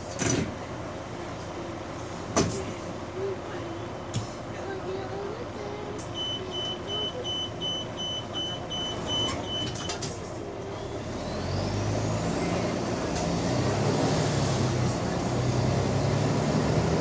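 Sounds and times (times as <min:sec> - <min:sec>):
bus engine: 0:00.0 - 0:17.0.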